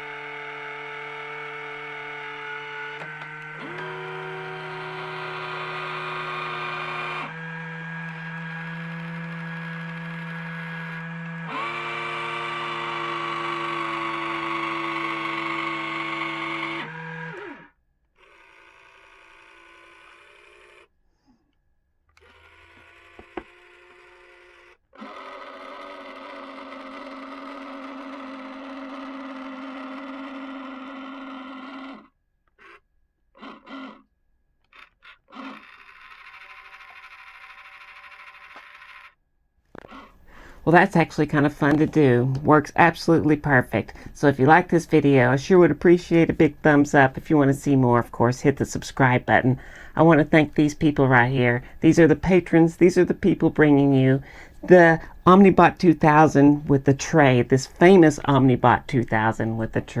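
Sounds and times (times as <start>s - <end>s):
electric motor and gears whining: 0.0s - 21.0s, 22.1s - 60.0s.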